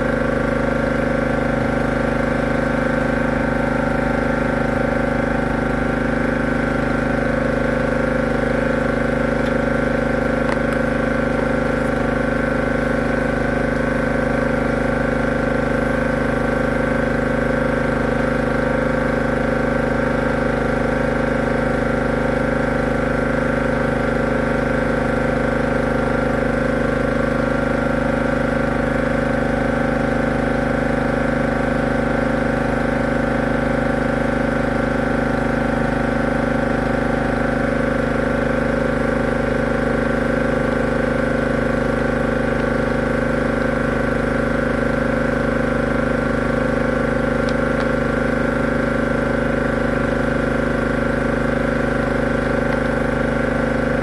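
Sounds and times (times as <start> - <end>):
drain jetter engine and pump running: 0.0 - 54.0.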